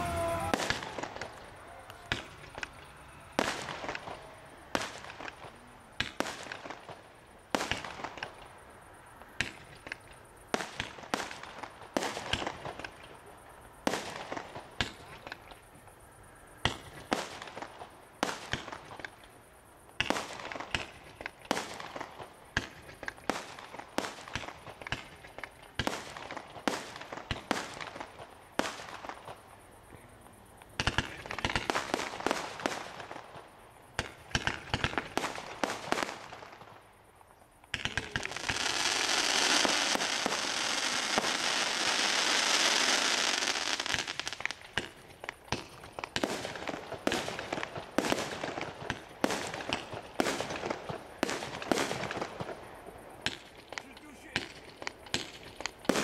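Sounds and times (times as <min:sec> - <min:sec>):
fireworks bursting: 0:00.0 - 0:16.0, 0:16.6 - 0:56.0.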